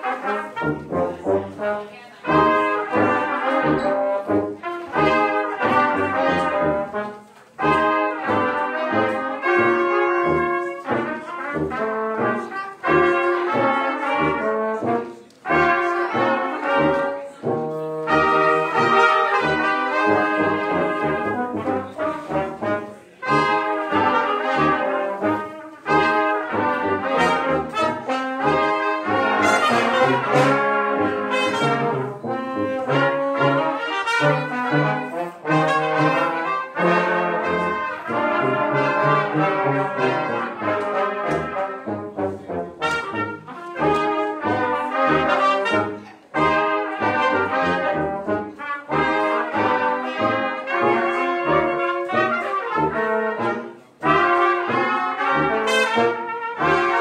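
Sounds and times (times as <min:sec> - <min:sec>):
brass ensemble playing: 0:00.0 - 0:57.0
tuba bass notes: 0:00.0 - 0:57.0.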